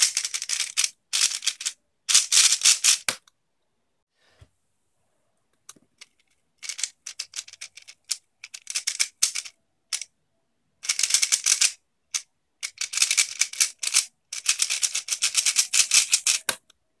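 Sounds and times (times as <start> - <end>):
puzzle cube clicking: 0.0 - 3.3, 5.6 - 10.1, 10.8 - 16.8.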